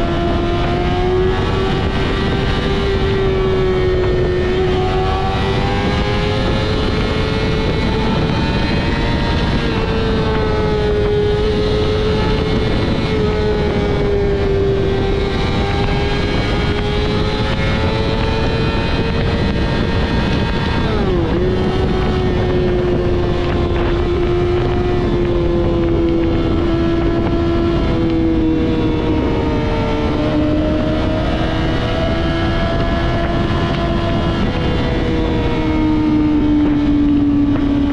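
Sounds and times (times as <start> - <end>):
motorcycle engine at high revs: 0.0 - 37.9
wind rushing: 0.0 - 37.9.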